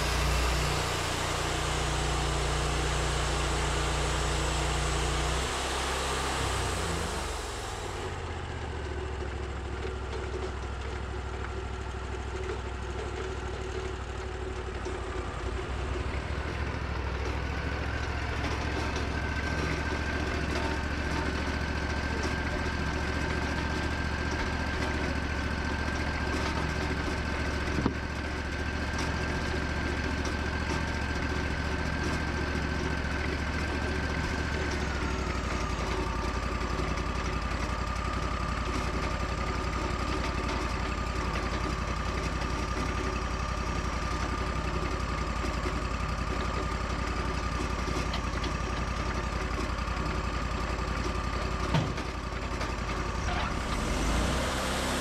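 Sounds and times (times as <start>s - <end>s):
sawmill engine whining: 0.0s - 9.3s, 14.6s - 55.0s.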